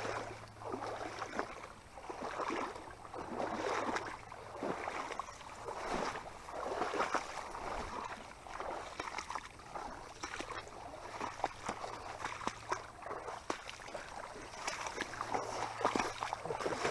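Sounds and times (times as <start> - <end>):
water sloshing and splashing: 0.0 - 16.9.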